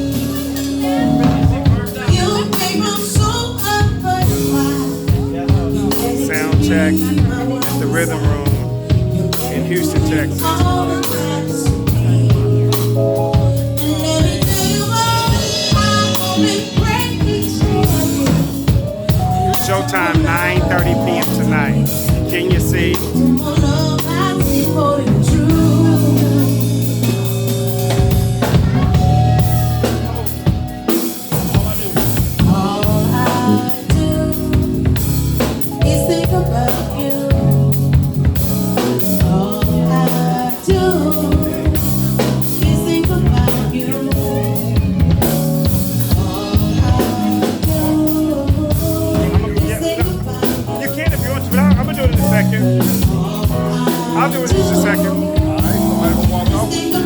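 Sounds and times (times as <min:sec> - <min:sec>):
low bass notes: 0:00.0 - 0:30.8, 0:31.4 - 0:57.0
drum kit: 0:00.0 - 0:57.0
live band over sound system: 0:00.0 - 0:57.0.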